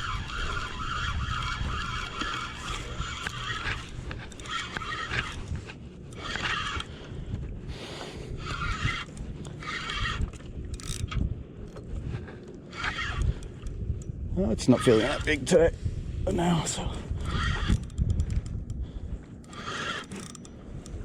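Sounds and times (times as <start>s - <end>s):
fishing reel buzzing: 0.0s - 21.0s
wind and water rumble: 0.0s - 21.0s.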